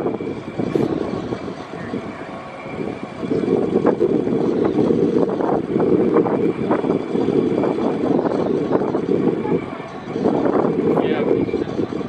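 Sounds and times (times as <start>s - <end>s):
ferry engines: 0.0s - 12.0s
wind rushing on microphone: 0.0s - 12.0s.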